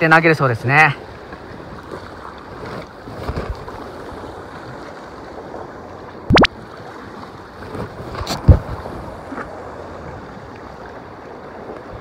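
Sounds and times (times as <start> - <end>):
waves on rocky shore: 0.0 - 12.0.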